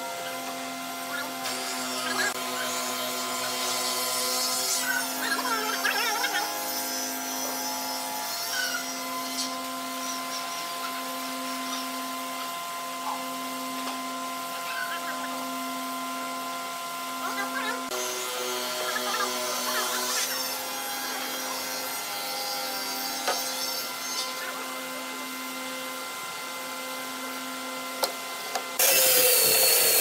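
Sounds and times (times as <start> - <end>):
machine humming: 0.0 - 30.0.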